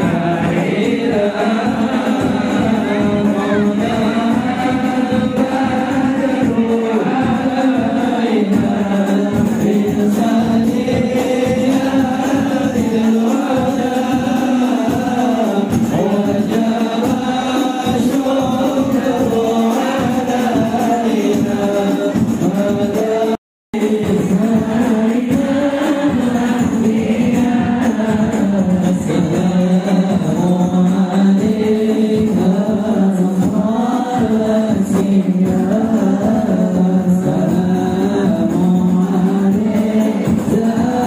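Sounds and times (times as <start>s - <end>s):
group singing devotional song: 0.0s - 41.0s
music: 0.0s - 41.0s.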